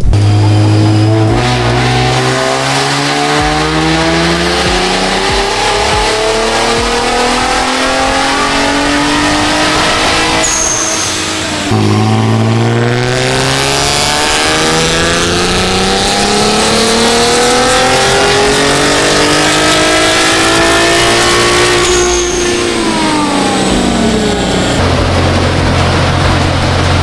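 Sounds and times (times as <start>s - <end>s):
engine revving on dyno: 0.0s - 27.0s.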